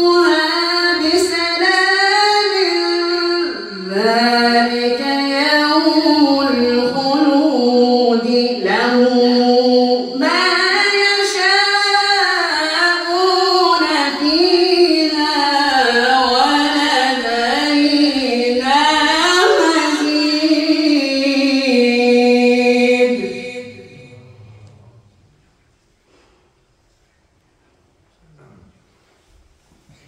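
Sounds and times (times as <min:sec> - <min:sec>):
man reciting in melodic style: 0:00.0 - 0:25.1.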